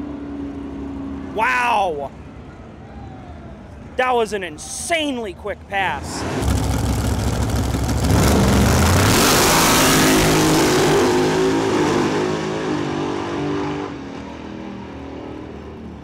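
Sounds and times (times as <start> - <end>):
race car engines at full throttle: 0.0 - 4.0, 5.6 - 16.0.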